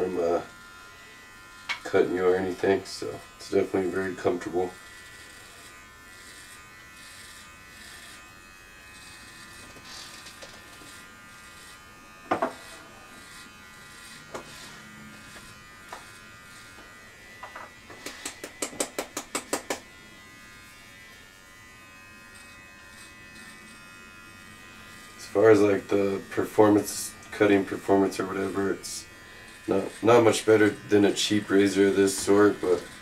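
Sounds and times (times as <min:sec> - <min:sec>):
electric body trimmer buzzing: 0:00.0 - 0:33.0.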